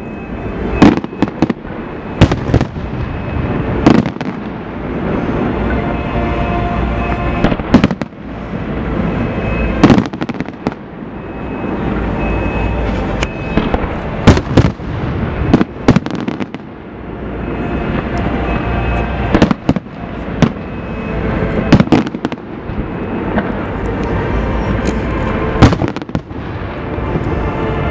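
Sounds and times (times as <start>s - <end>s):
low rumble: 0.0s - 27.9s
fireworks bangs: 0.3s - 27.8s
fireworks crackle: 0.4s - 11.1s, 11.7s - 27.9s.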